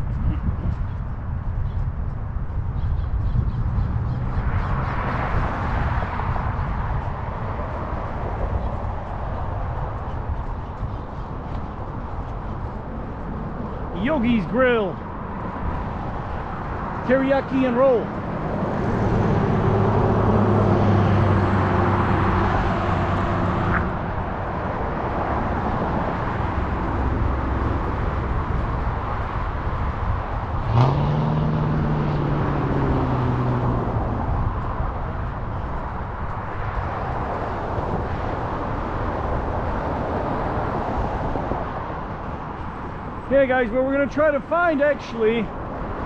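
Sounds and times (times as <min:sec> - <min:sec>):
car engines humming: 0:00.0 - 0:46.0
road noise: 0:00.0 - 0:46.0
loud vehicle passing: 0:03.7 - 0:46.0.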